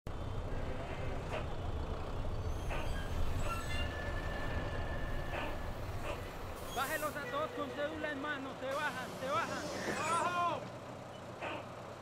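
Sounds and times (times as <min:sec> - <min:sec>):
bus engine and road rumble: 0:00.1 - 0:12.0.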